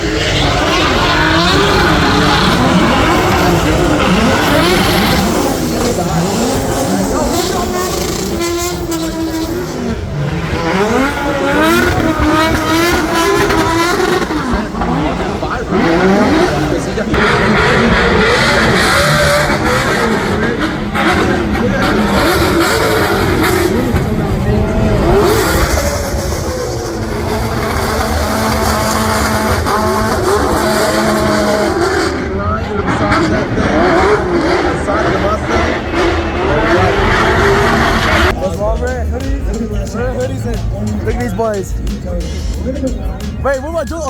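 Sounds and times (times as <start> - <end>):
car engines revving hard: 0.0 - 44.0.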